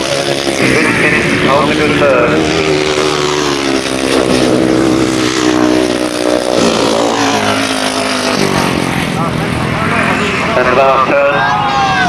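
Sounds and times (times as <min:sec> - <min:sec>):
racing motorcycles at high revs: 0:00.0 - 0:12.0.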